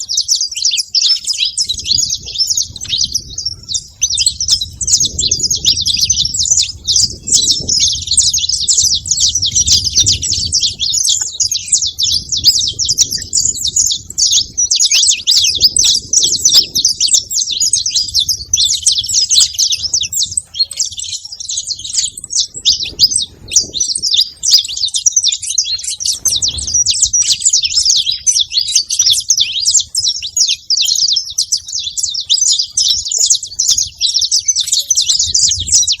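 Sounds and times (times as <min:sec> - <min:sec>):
finches chirping: 0:00.0 - 0:36.0.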